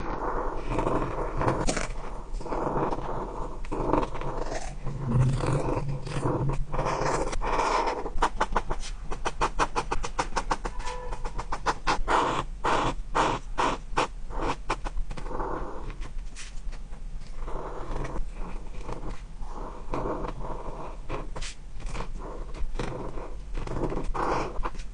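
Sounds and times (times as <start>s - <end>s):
drawing tool scratching on paper: 0.0s - 24.9s.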